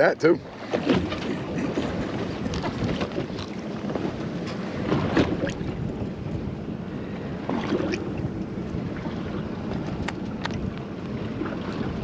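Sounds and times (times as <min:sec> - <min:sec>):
water lapping against hull: 0:00.0 - 0:12.0
wind buffeting microphone: 0:00.0 - 0:12.0.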